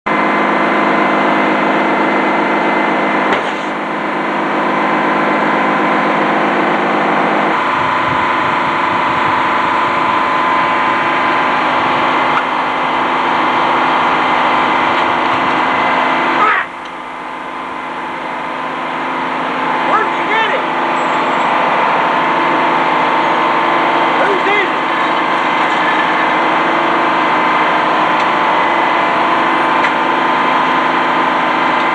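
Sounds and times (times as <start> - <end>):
sawmill mechanical drone: 0.1 - 31.9.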